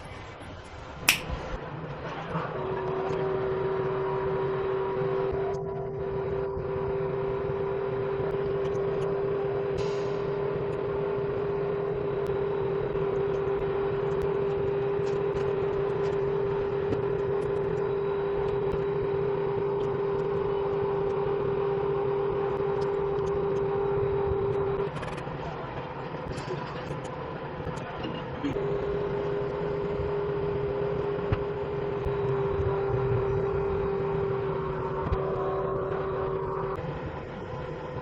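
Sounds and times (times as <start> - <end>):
noisy whir: 0.0 - 38.0
steady electric hum: 3.2 - 38.0.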